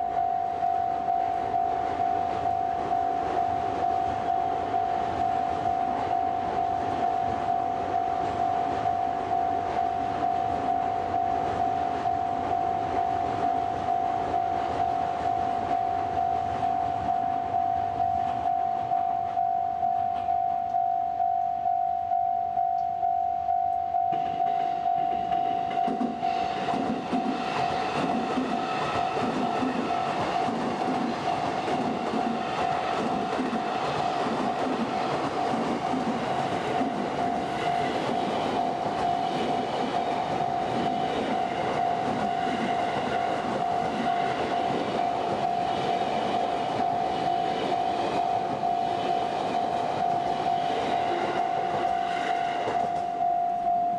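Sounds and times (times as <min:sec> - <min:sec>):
electric train passing: 0:00.0 - 0:21.3, 0:23.9 - 0:53.9
high ringing tone: 0:00.0 - 0:27.9, 0:36.3 - 0:53.9.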